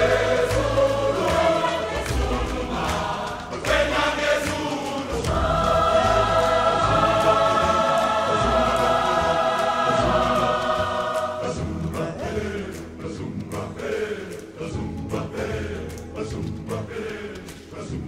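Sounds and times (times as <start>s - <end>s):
choir singing held chords: 0.0s - 18.0s.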